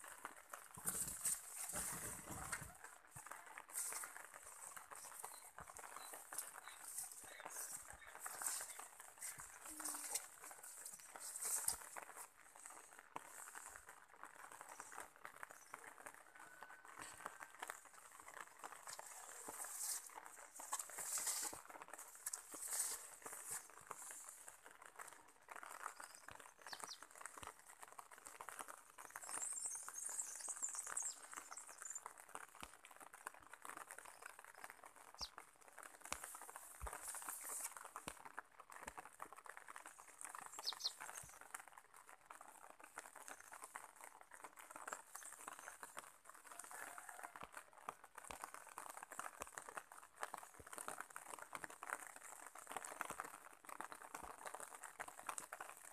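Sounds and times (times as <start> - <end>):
small clicks and rustles: 0.0 - 55.9.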